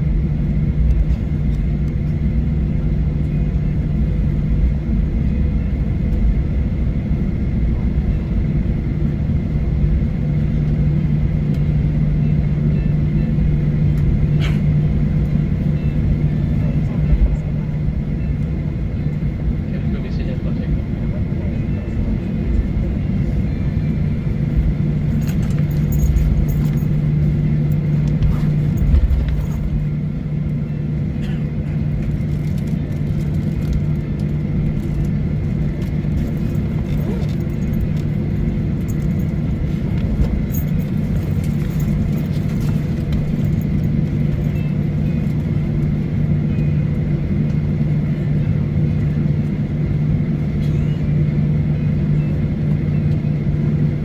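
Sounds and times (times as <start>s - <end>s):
airplane engine hum: 0.0s - 54.0s.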